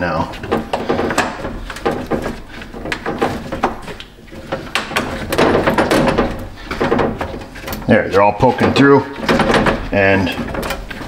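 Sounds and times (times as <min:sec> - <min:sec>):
plastic scraping on metal: 0:00.0 - 0:11.0
plastic clicking and knocking on metal: 0:00.3 - 0:11.0.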